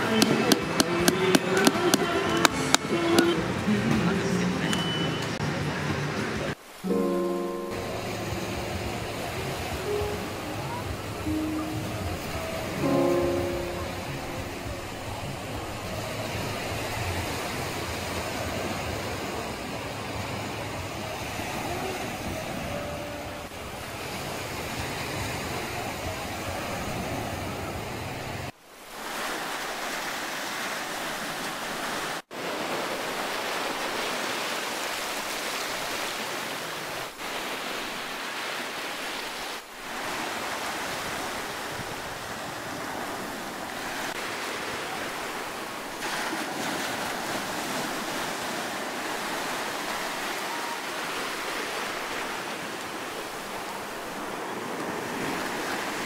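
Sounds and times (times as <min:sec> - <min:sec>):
small waves breaking on sand: 0:06.3 - 0:56.0.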